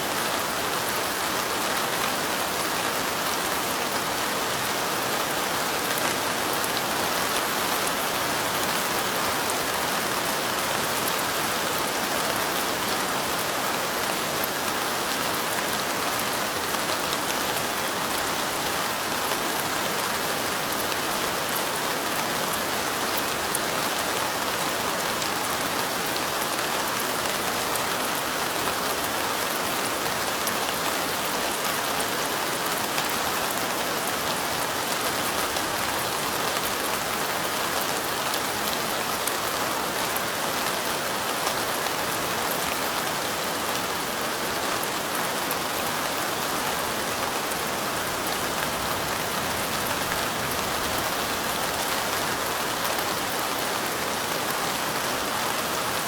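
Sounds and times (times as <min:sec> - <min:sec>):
steady light rain: 0:00.0 - 0:56.0.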